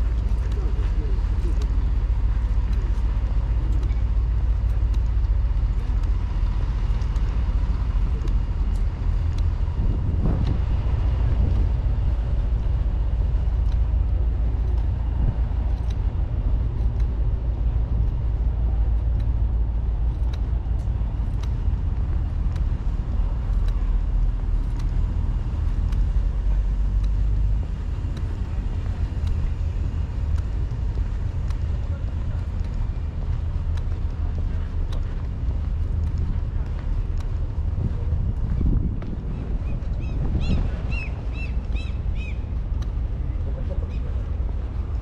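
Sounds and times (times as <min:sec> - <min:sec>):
low rumble of vehicle engines: 0:00.0 - 0:45.0
faint ticks: 0:00.1 - 0:09.6, 0:12.6 - 0:39.2, 0:41.6 - 0:45.0.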